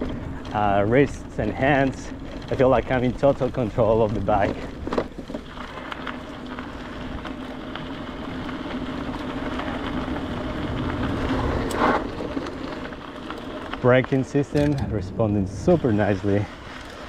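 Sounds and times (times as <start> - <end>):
brakes scraping: 0.0 - 17.0
tyres crunching on gravel: 0.0 - 17.0.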